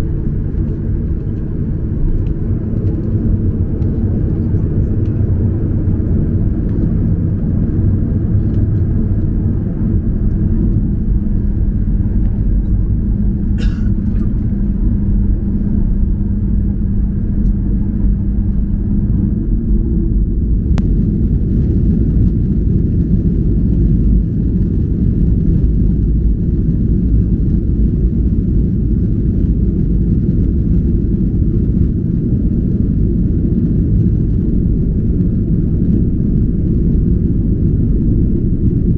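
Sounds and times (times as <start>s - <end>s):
airplane cabin engine hum: 0.0s - 38.9s.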